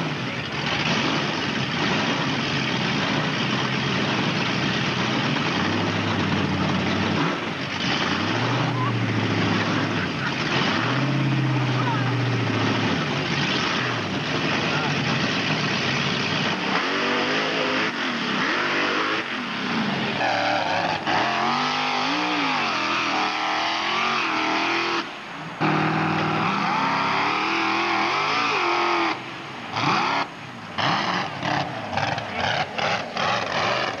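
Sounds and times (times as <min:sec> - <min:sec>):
engine revving hard: 0:00.0 - 0:34.0.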